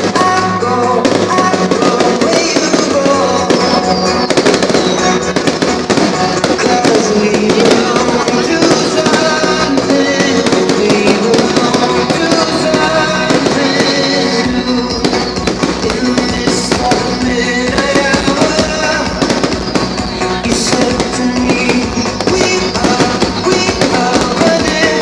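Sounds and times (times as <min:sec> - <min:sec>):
fireworks crackling and popping: 0:00.0 - 0:25.0
loud music: 0:00.0 - 0:25.0.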